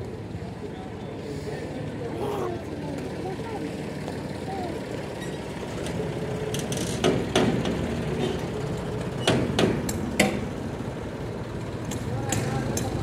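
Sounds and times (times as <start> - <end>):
tractor engine running: 2.6 - 13.0.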